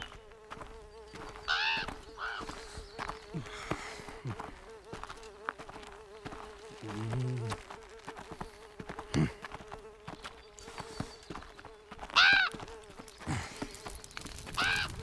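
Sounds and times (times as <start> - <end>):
fly buzzing: 0.0 - 15.0.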